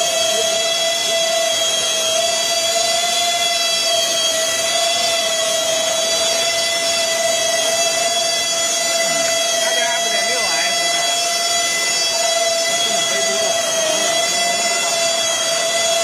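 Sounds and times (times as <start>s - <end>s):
model jet ducted fans whining: 0.0s - 16.0s.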